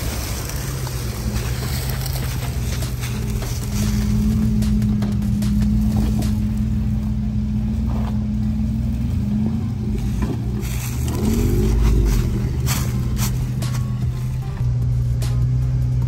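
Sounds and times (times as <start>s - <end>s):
engine running at low speed: 0.0s - 16.0s.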